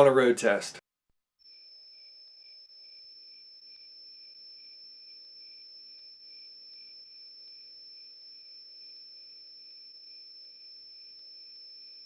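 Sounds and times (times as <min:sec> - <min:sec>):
crickets chirping: 0:01.5 - 0:12.0.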